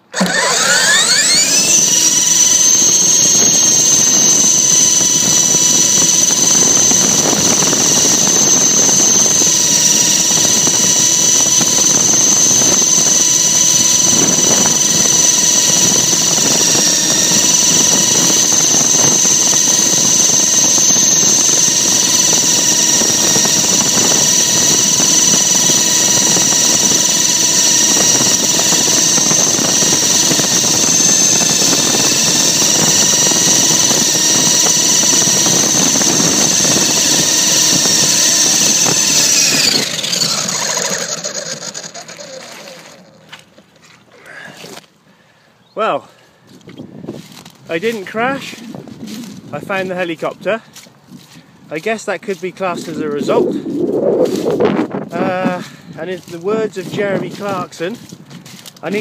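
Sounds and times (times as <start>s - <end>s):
model helicopter rotors whining: 0.0s - 44.9s, 45.8s - 59.0s.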